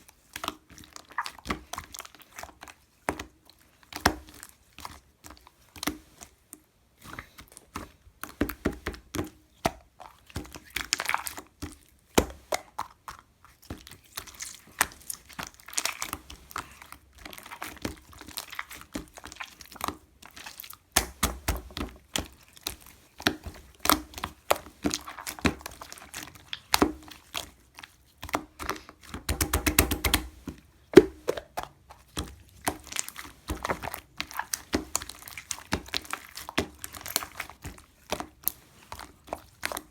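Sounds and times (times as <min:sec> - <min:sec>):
slime squished by hand: 0:00.2 - 0:06.4, 0:07.0 - 0:39.9.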